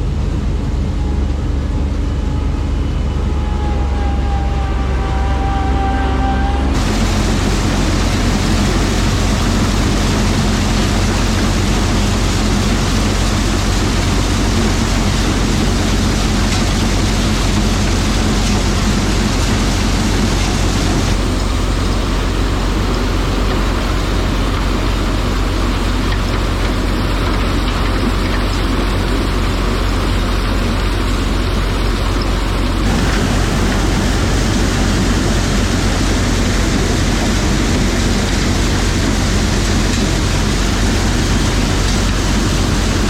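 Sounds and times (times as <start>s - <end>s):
mechanical rush of machinery: 0.0s - 24.7s, 30.4s - 43.0s
engine hum: 0.0s - 43.0s.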